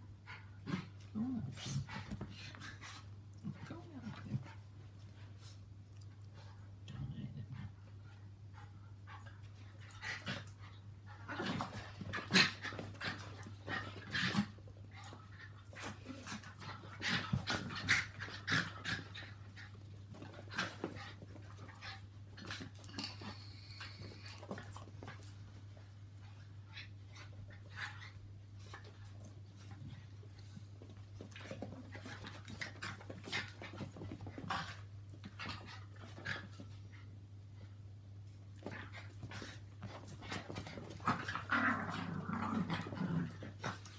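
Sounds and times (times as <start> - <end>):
dogs play-fighting noises: 0.0 - 43.9
faint low hum: 0.0 - 43.9.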